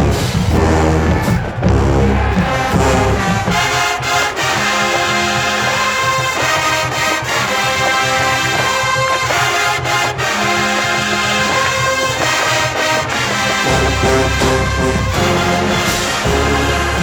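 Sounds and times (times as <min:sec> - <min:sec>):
brass chords and melody: 0:00.0 - 0:17.0
marching band playing: 0:00.0 - 0:17.0
steady drum beat: 0:00.0 - 0:17.0.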